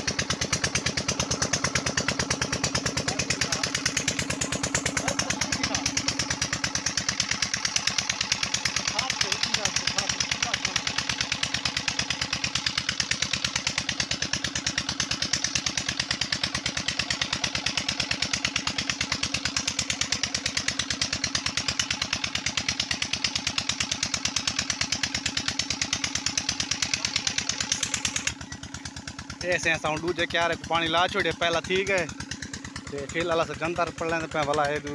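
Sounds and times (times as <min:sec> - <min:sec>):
diesel engine running steadily: 0:00.0 - 0:34.9.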